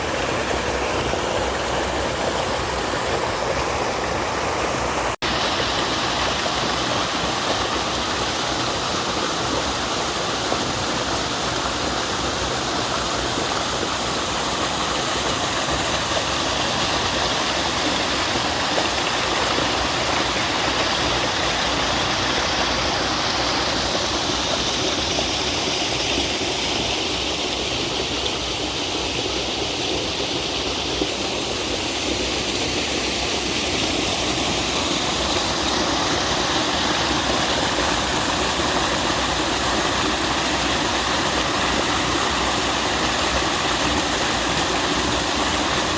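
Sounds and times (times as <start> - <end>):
waterfall rushing and splashing: 0.0 - 45.9.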